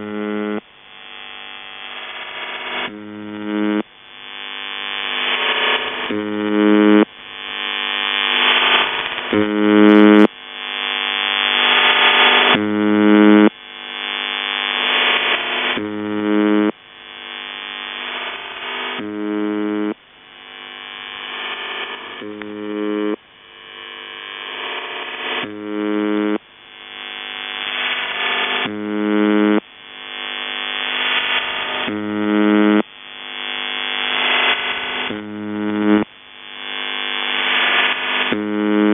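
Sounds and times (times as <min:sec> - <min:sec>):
harsh radio buzz: 0:00.0 - 0:38.9.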